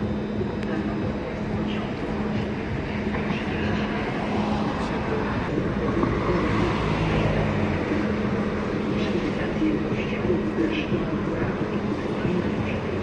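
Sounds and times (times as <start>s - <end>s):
background voices: 0.0s - 13.0s
train humming: 0.0s - 13.0s.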